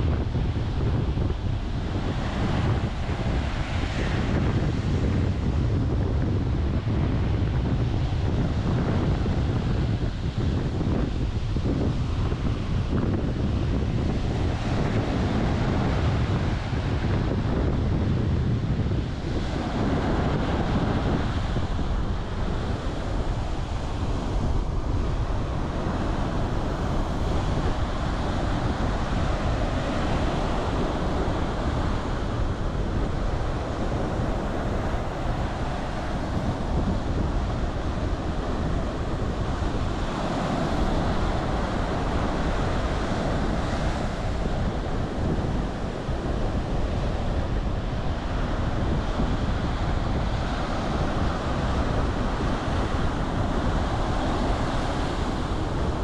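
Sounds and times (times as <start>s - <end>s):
surf breaking on a beach: 0.0s - 56.0s.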